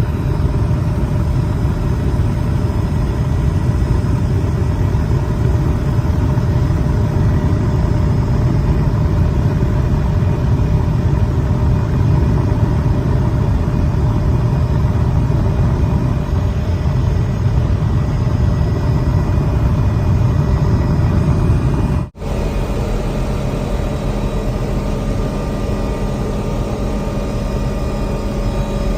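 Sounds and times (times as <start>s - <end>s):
faint whining tones: 0.0s - 28.9s
loud engine drone: 0.0s - 28.9s.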